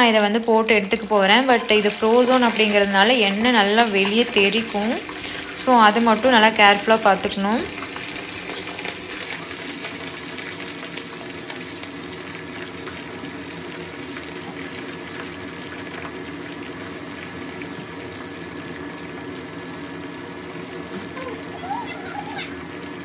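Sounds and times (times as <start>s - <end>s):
fries deep-frying in oil: 0.0s - 23.0s.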